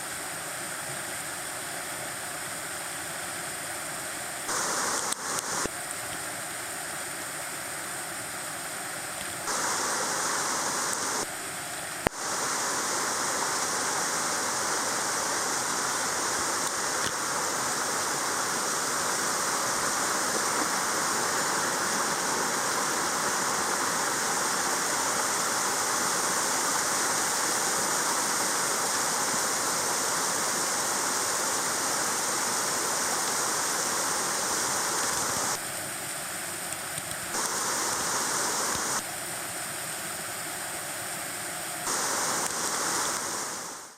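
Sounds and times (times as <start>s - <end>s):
mountain stream and waterfall rushing: 0.0s - 43.9s.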